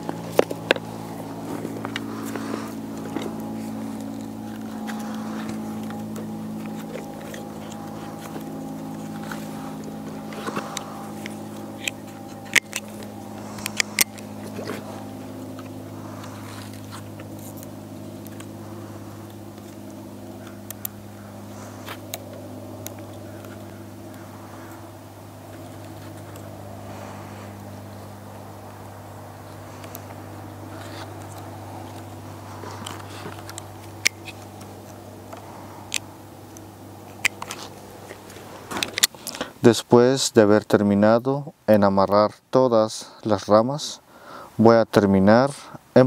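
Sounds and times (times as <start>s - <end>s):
pruners clicking: 0.0s - 39.6s
motor engine drone: 0.0s - 46.0s.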